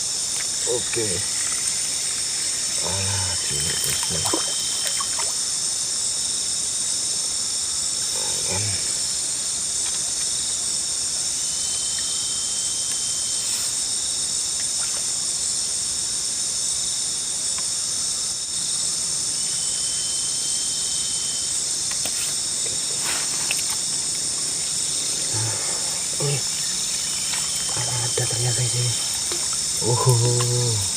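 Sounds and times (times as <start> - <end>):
chorus of night insects: 0.0 - 30.9
lower insect trill: 0.0 - 30.9.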